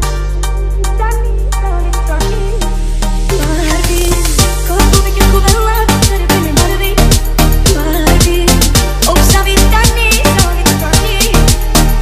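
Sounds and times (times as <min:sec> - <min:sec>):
sustained bass: 0:00.0 - 0:12.0.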